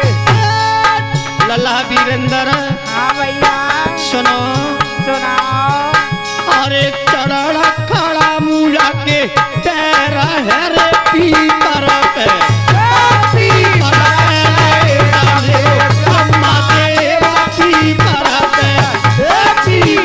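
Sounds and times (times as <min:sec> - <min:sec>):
keyboard melody with bending notes: 0:00.0 - 0:20.0
tabla rhythm: 0:00.0 - 0:20.0.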